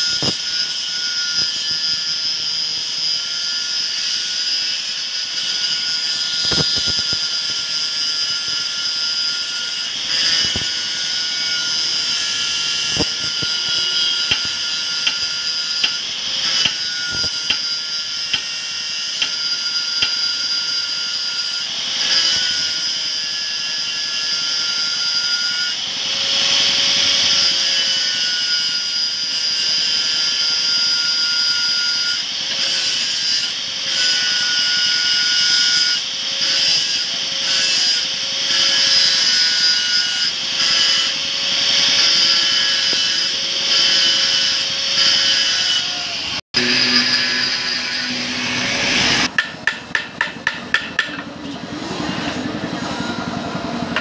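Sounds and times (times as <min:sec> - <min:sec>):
angle grinder grinding steel: 0:00.0 - 0:54.0.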